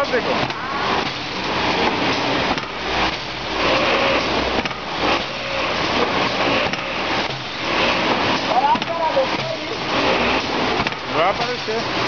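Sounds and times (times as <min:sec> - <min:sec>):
loud machinery noise: 0:00.0 - 0:12.0.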